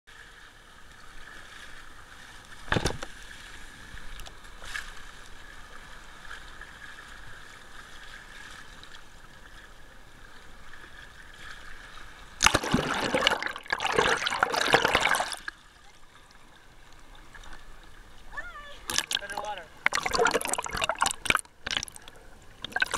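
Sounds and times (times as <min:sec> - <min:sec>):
sea water sloshing and splashing: 0:00.1 - 0:22.9.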